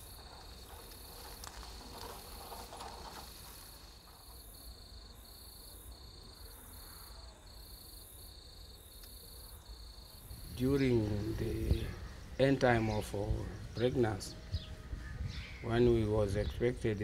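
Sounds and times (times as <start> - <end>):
insects chirping in pulses: 0.0 - 14.2.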